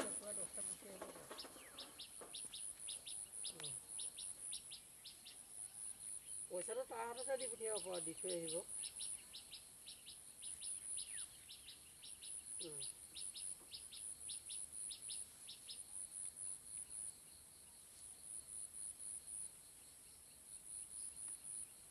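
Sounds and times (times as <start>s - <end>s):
insects pulsing buzz: 0.0s - 21.9s
sharp insect chirp: 0.0s - 21.9s.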